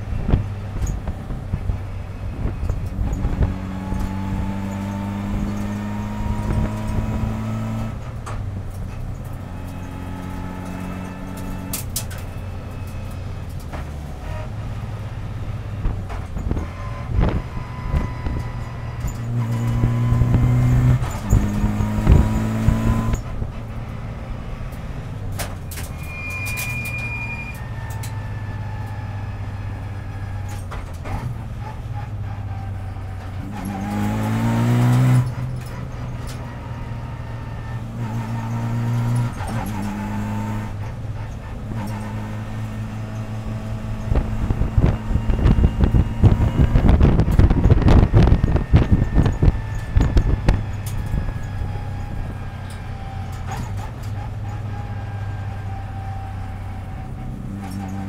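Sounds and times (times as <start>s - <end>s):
race car engine revving: 0.0s - 27.2s, 27.8s - 58.0s.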